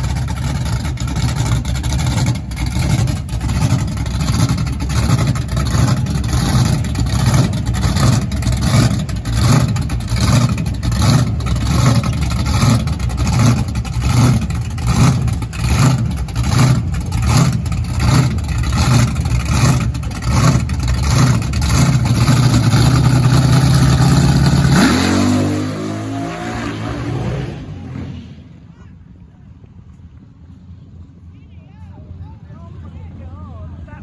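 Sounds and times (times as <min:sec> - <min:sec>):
car engine idling and revving: 0:00.0 - 0:28.7.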